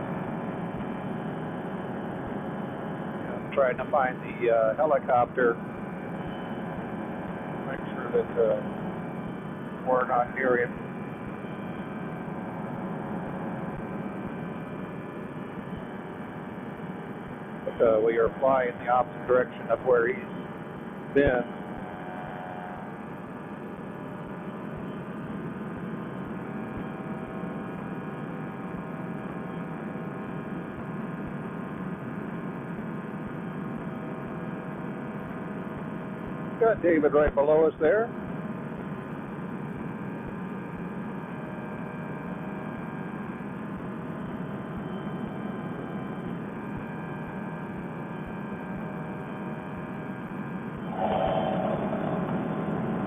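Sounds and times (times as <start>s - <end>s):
paramotor engine and propeller drone: 0.0s - 30.5s, 39.5s - 53.0s.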